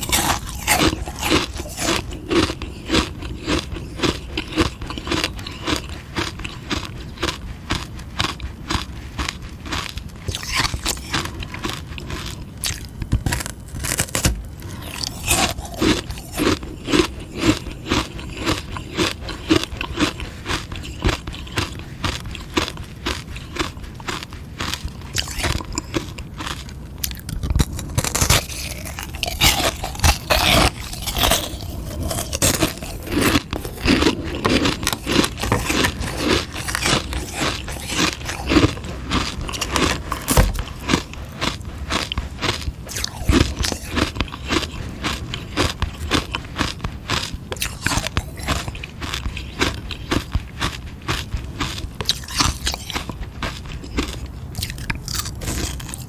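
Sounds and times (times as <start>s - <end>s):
crunching ice lolly: 0.0s - 56.0s.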